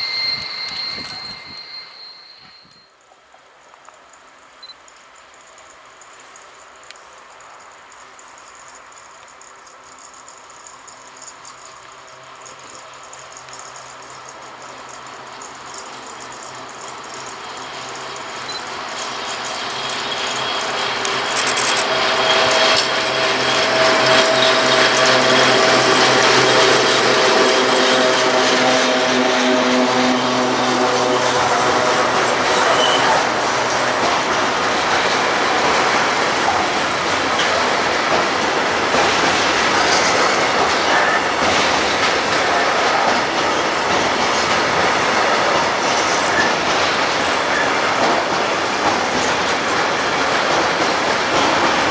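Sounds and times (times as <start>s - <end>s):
locomotive hum: 0.0s - 2.9s, 4.2s - 51.9s
freight train wheels clattering: 4.9s - 51.9s.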